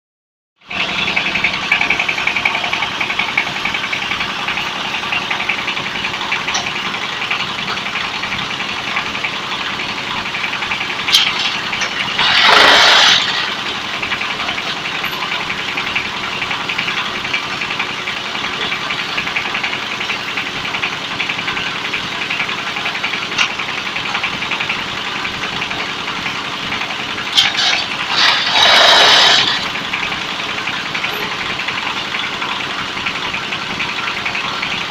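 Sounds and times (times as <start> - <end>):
block press machine running: 0.6 - 34.9.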